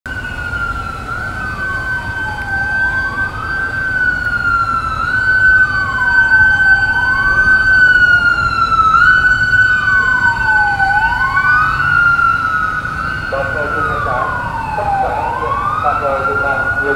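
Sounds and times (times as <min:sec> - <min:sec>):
police sirens wailing: 0:00.1 - 0:16.9.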